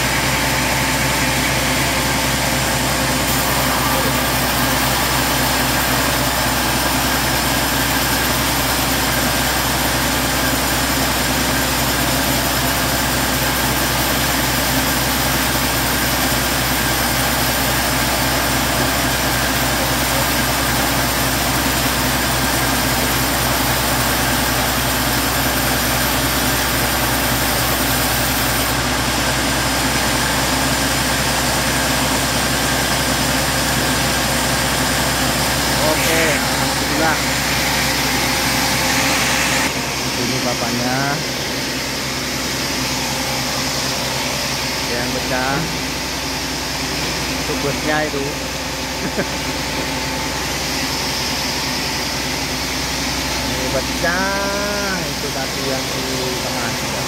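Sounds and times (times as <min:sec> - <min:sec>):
band sawmill humming: 0:00.0 - 0:57.0.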